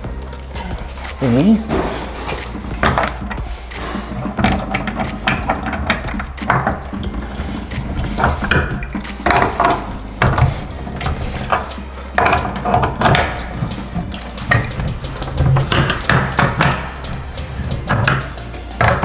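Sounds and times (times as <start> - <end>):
metal fittings clinking and rattling: 0.0 - 19.0.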